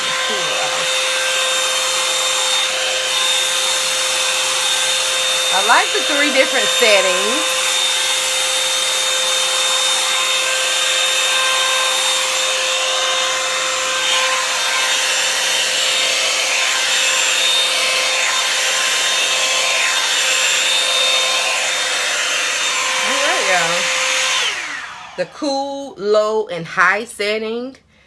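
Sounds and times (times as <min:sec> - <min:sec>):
hair dryer fan whine: 0:00.0 - 0:25.7.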